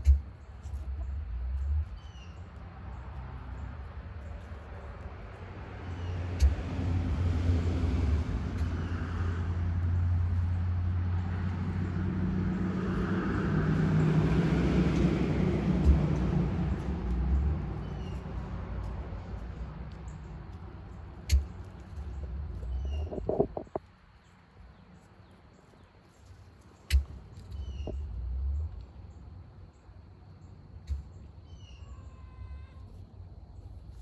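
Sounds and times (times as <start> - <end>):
motor vehicle passing: 0.0 - 25.1, 25.8 - 31.4.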